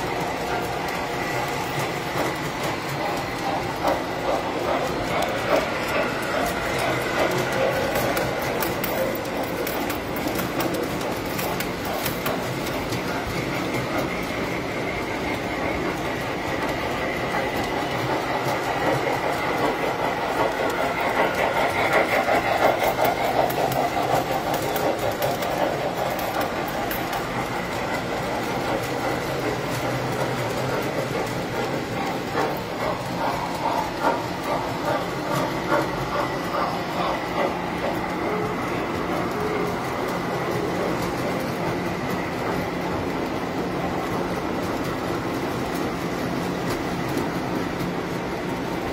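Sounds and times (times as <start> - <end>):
model trains running on metal track: 0.0 - 48.9.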